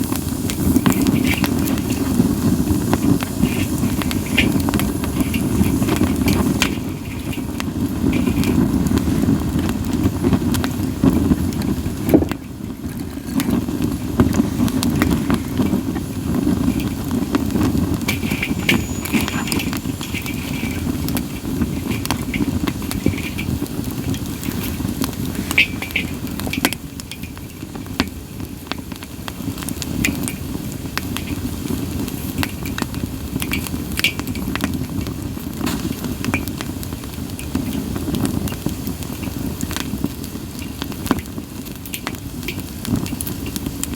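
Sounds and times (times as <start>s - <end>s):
campfire flame rushing: 0.0s - 43.9s
fire crackling and popping: 0.0s - 43.9s.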